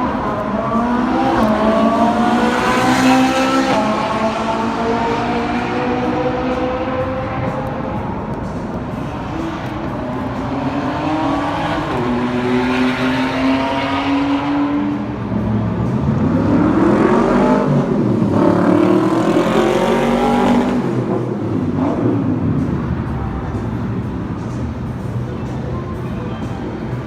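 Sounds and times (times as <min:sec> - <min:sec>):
sports car engine revving: 0:00.0 - 0:22.9.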